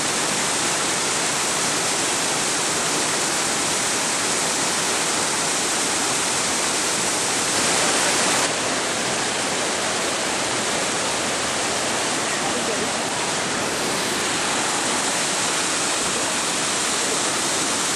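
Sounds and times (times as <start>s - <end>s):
river rapids rushing: 0.0s - 17.9s.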